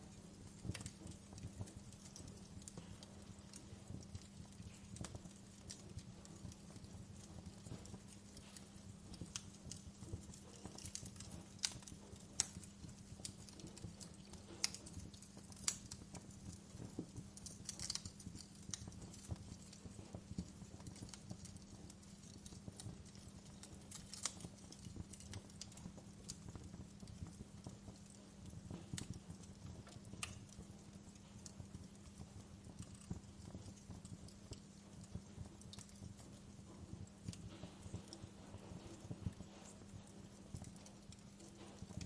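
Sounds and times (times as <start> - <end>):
low steady hum: 0.0 - 42.0
wood fire crackling and popping: 0.0 - 42.0.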